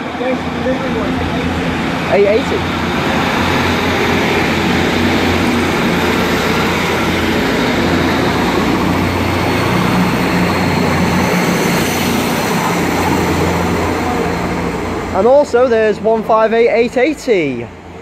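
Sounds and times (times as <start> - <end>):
train diesel engine droning: 0.0 - 18.0.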